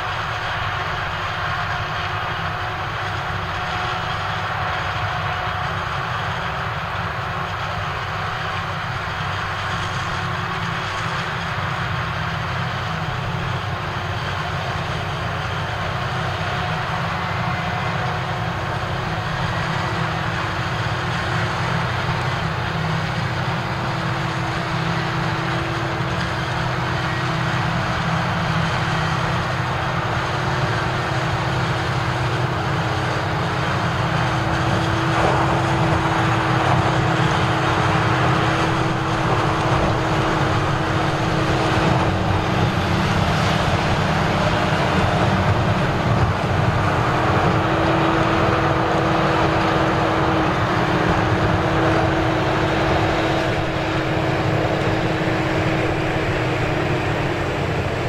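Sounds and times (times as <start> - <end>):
tractor engines: 0.0 - 58.0.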